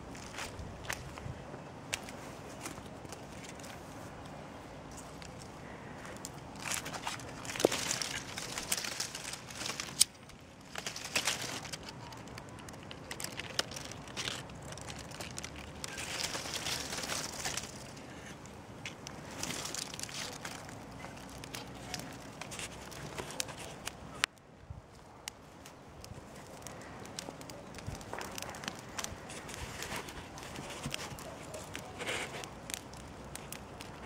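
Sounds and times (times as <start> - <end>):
bonfire crackling: 0.0 - 34.0.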